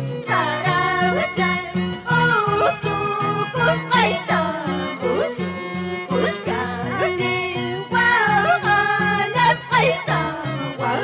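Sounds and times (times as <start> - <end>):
pulsing string accompaniment: 0.0 - 11.0.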